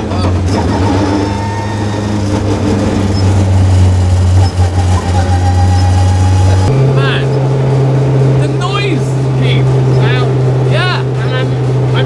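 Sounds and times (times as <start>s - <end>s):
car engine drone from inside cabin: 0.0s - 12.0s.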